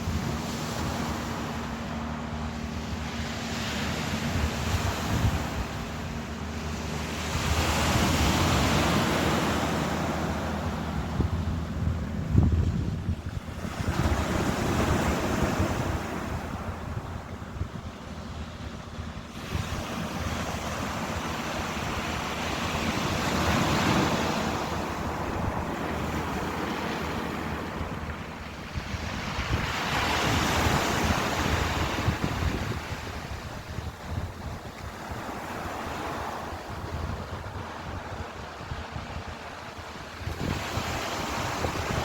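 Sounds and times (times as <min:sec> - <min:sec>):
ocean surf washing in: 0:00.0 - 0:42.0
wind rumble on microphone: 0:00.0 - 0:42.0.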